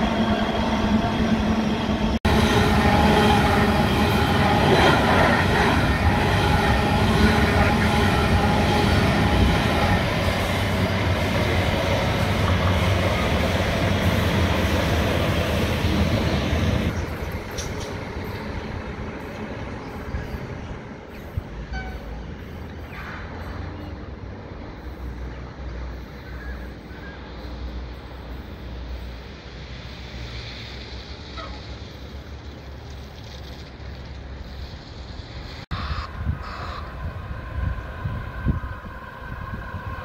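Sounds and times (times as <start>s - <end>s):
diesel railcar passing: 0.0s - 40.0s
distant train: 0.0s - 40.0s
freight train wheels on rails: 0.0s - 40.0s.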